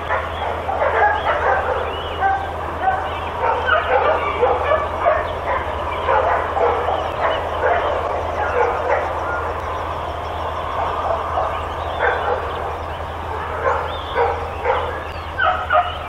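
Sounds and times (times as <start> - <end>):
many dogs barking and yelping: 0.0 - 16.0.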